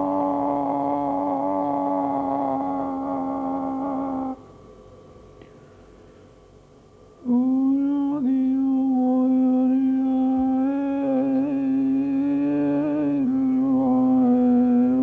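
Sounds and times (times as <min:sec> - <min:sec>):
person chanting a held note: 0:00.0 - 0:04.5, 0:07.2 - 0:15.0
lower steady note: 0:00.0 - 0:05.0, 0:07.1 - 0:15.0.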